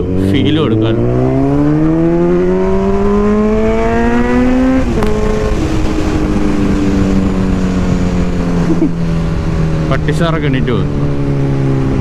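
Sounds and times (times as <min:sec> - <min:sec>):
motorcycle engine accelerating: 0:00.0 - 0:12.0
wind rush: 0:00.0 - 0:12.0.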